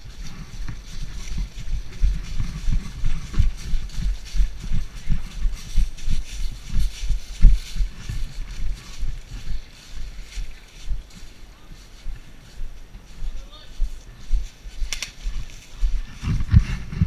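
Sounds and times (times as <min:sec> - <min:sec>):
footsteps jogging: 0:00.0 - 0:17.0.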